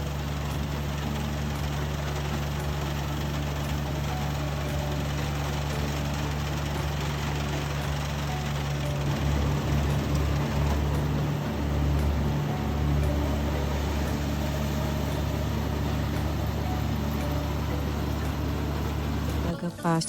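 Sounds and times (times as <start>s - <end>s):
harvester engine humming: 0.0s - 20.0s.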